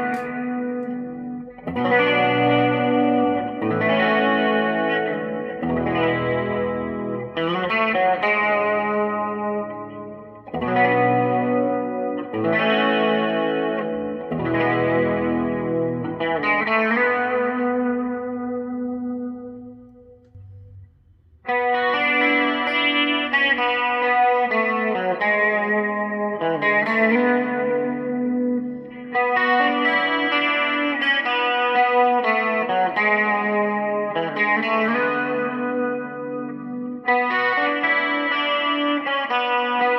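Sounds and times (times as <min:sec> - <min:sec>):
electric guitar chords ringing: 0:00.0 - 0:39.9.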